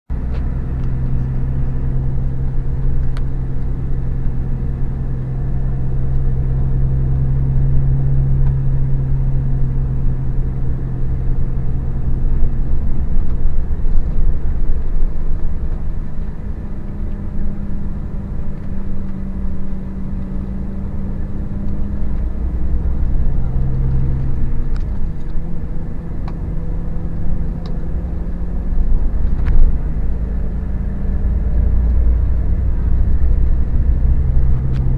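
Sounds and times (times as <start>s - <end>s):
coach engine rumble: 0.1s - 34.9s.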